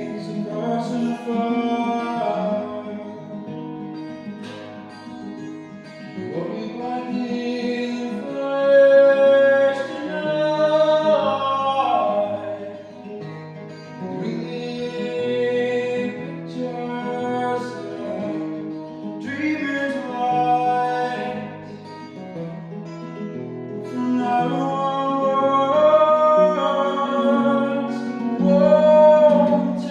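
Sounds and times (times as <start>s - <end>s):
person singing: 0.0s - 3.4s, 6.3s - 13.1s, 14.1s - 22.0s, 23.8s - 29.9s
acoustic guitar: 0.0s - 29.9s.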